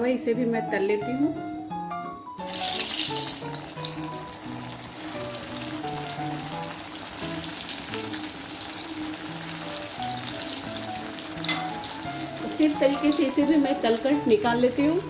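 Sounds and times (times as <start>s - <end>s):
background music with simple melody: 0.0s - 15.0s
food deep-frying in oil: 2.4s - 15.0s.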